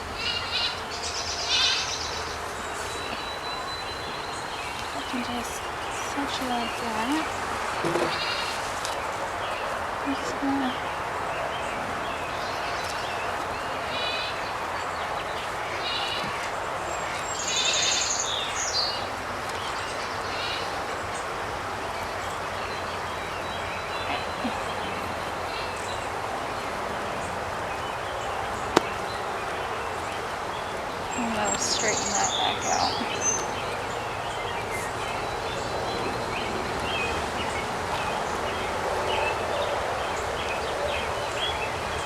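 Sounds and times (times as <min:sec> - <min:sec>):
birds chirping: 0:00.0 - 0:42.0
steady background hiss: 0:00.0 - 0:42.0.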